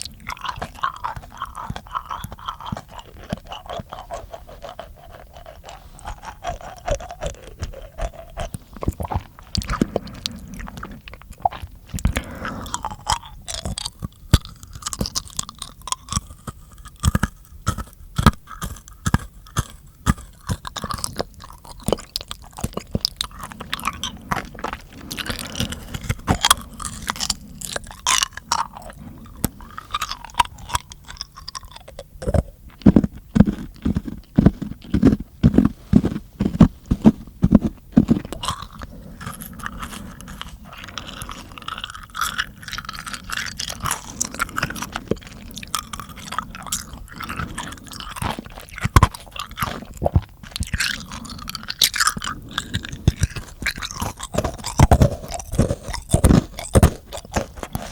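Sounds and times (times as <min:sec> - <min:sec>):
wet mouth clicking and smacking: 0:00.0 - 0:57.9.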